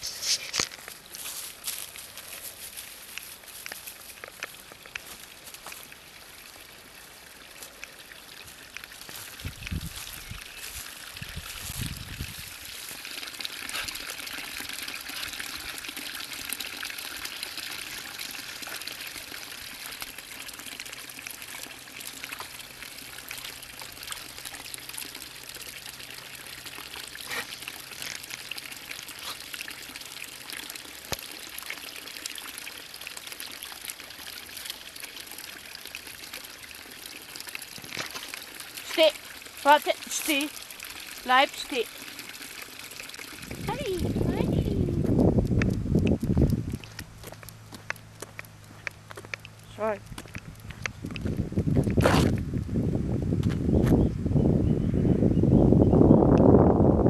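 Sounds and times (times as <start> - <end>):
water splashing into stone basin: 3.6 - 52.4.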